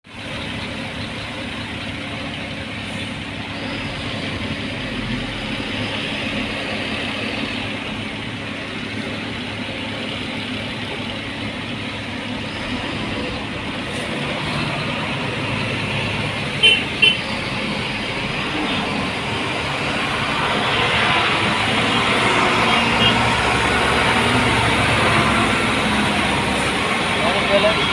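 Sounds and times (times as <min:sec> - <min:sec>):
road noise: 0:00.0 - 0:27.9
truck engine: 0:00.0 - 0:27.9.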